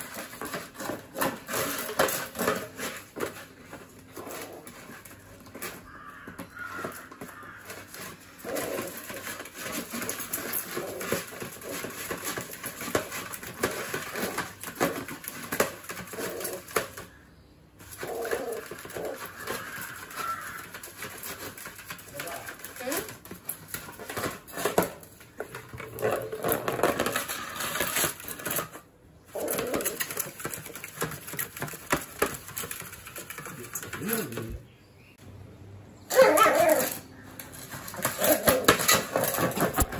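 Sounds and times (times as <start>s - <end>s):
puppy claws scrabbling in plastic tub: 0.0s - 17.2s, 17.8s - 34.7s, 36.1s - 39.9s.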